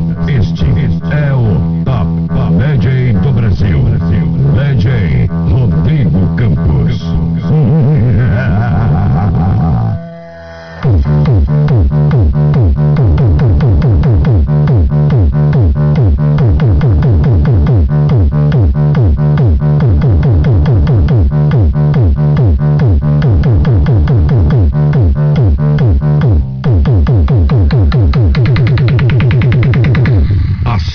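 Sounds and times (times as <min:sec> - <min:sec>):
electronic dance music: 0:00.0 - 0:30.9.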